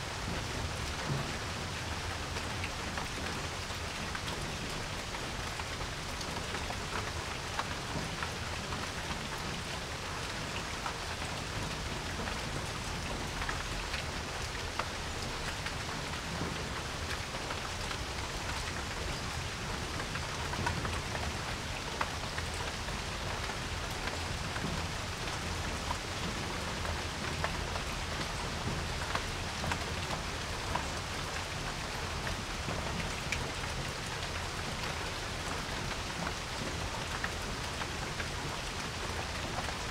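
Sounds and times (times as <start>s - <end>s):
rain falling on a porch: 0.0s - 39.9s.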